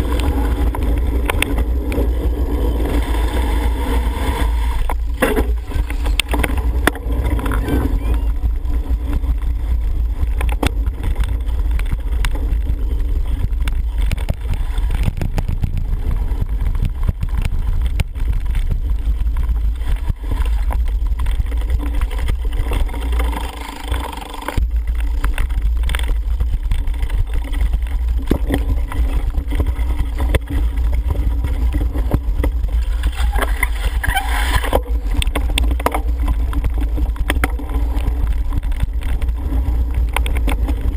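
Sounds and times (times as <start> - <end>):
bike clicking and rattling: 0.0 - 40.9
wind buffeting microphone: 0.0 - 40.9.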